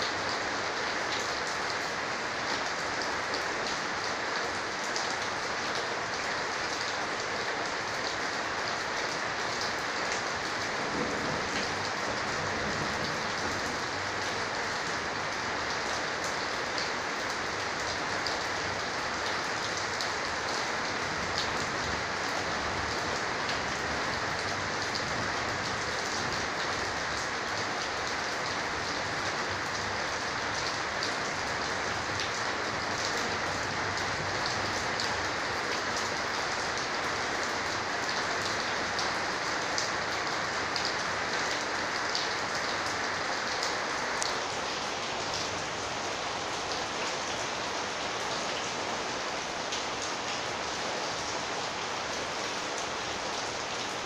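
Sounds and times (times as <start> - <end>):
rain on a corrugated roof: 0.0 - 54.0.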